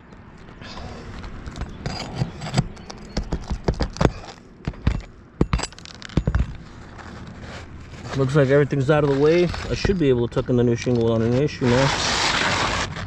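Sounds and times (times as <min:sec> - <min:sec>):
metal tool scraping and knocking shingles: 0:01.4 - 0:13.0.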